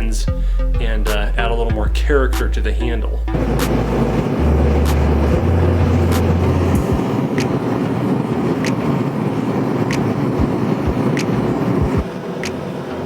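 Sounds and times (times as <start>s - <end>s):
gas forge burner roaring: 1.8s - 13.0s.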